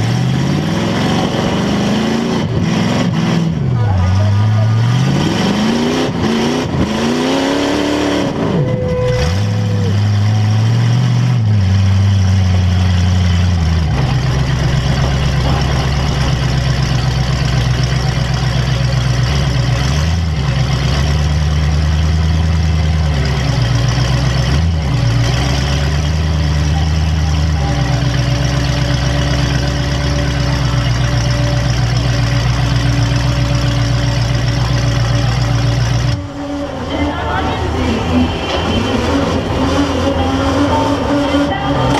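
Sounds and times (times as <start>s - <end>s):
car engine revving and idling: 0.0s - 41.9s.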